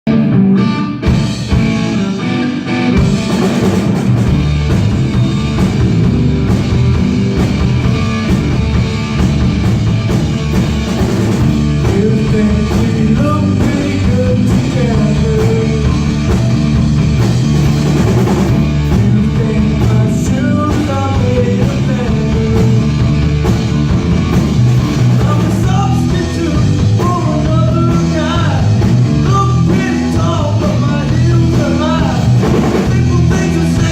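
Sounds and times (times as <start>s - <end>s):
rock music with singing: 0.1s - 33.9s.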